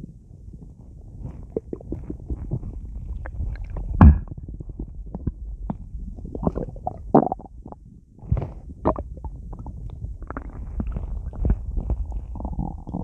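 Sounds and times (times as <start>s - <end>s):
stomach gurgling and growling: 0.0s - 13.0s.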